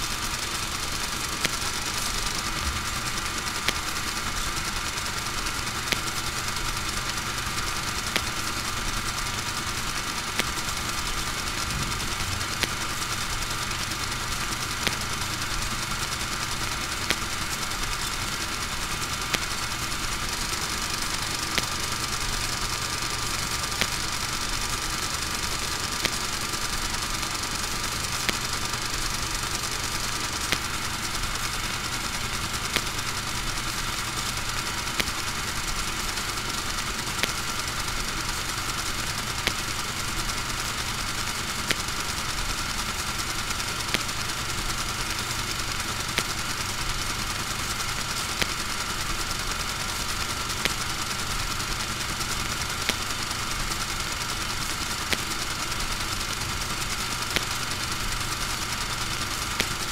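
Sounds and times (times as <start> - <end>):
mechanical drone: 0.0 - 59.9
sharp click: 0.0 - 59.9.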